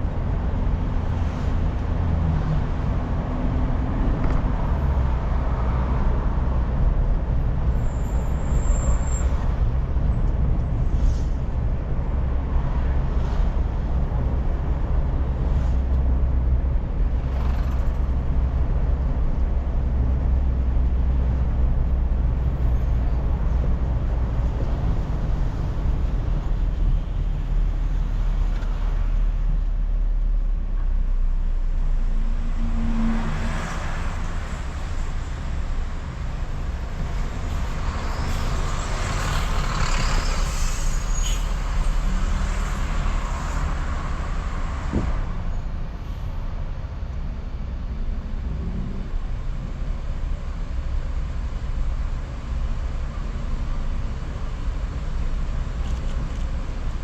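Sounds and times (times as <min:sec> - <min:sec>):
tyre road noise: 0:00.0 - 0:57.0.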